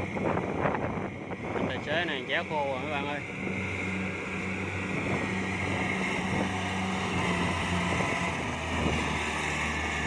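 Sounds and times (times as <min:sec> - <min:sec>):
combine harvester diesel engine hum: 0:00.0 - 0:10.0
machinery whirring: 0:00.0 - 0:10.0.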